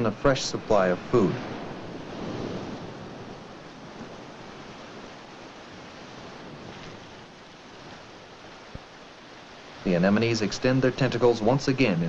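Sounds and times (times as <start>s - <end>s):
surf washing over rocky shore: 0.0s - 12.0s.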